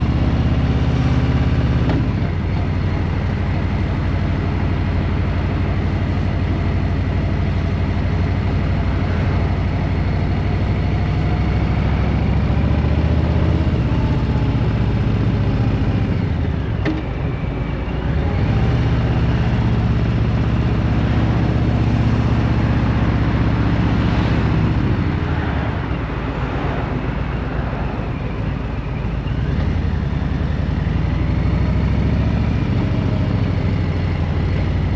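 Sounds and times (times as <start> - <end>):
vehicle engine while driving: 0.0 - 34.9.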